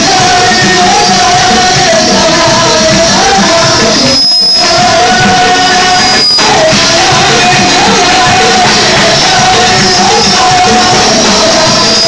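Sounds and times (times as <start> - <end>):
band playing: 0.0 - 12.0
voices singing worship music: 0.0 - 12.0.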